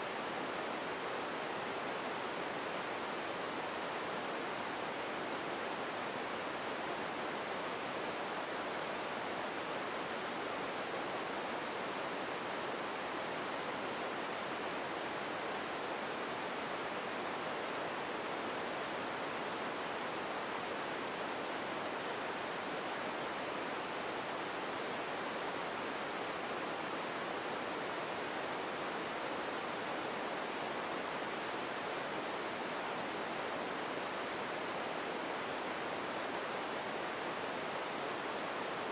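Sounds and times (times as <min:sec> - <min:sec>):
steady ambient hiss: 0:00.0 - 0:38.9.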